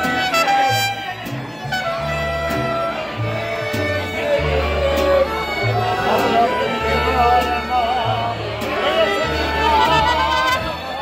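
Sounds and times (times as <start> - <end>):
mariachi band playing: 0.0 - 11.0.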